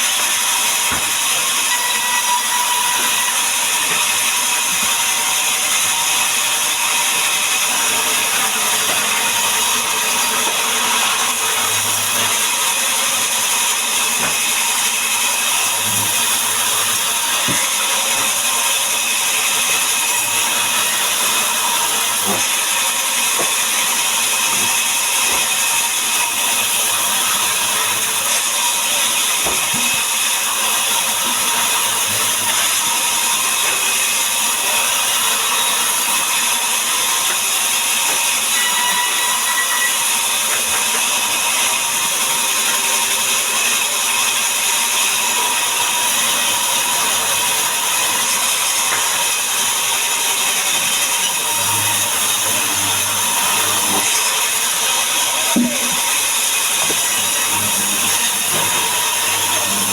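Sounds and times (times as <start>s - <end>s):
power saw cutting timber: 0.0s - 59.9s.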